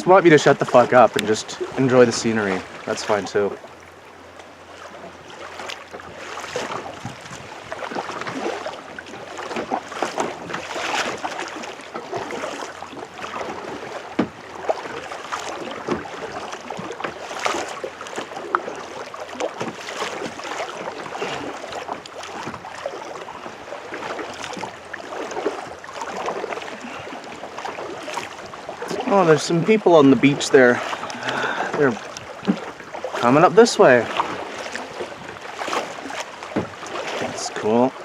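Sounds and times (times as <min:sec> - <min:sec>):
paddle splashing and dripping: 0:00.0 - 0:38.0
water lapping along hull: 0:00.0 - 0:38.0.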